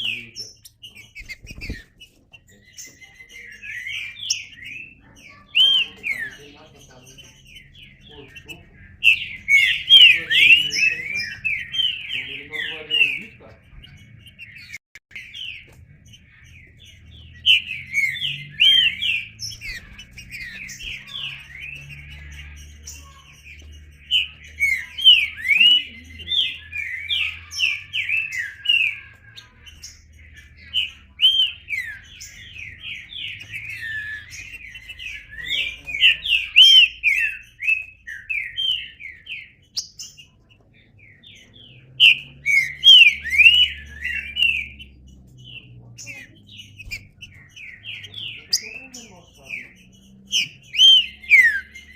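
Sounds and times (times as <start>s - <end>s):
bird singing whistled notes: 0.0s - 29.2s, 29.8s - 40.4s, 41.0s - 51.9s.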